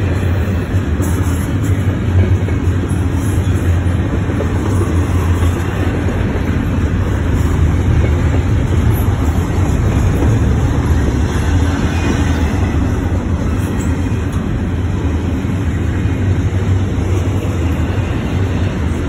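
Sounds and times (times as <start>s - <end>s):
steel wheels rumbling on rails: 0.0s - 19.0s.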